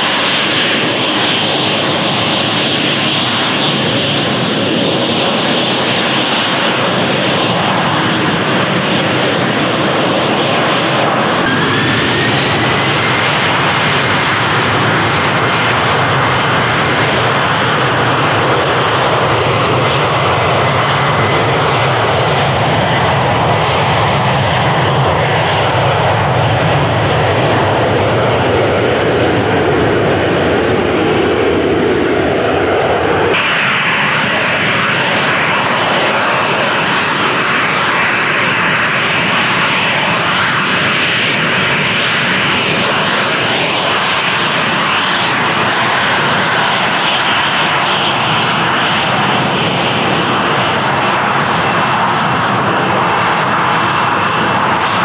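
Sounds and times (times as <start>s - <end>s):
jet engine high-pitched whine: 0.0s - 55.0s
jet engines running: 0.0s - 55.0s.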